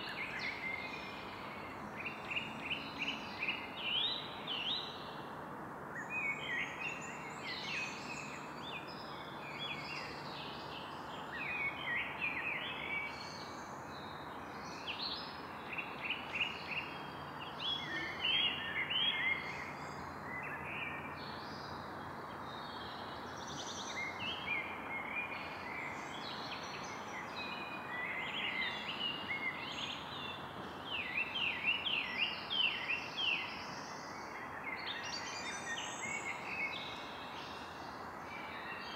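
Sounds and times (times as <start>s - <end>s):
birds singing and calling: 0.0s - 5.4s, 6.0s - 38.9s
steady background hiss: 0.0s - 38.9s.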